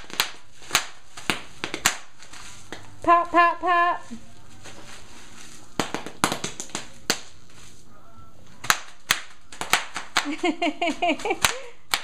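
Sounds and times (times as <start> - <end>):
bubble wrap popping: 0.0 - 3.0, 4.4 - 7.9, 8.5 - 12.0.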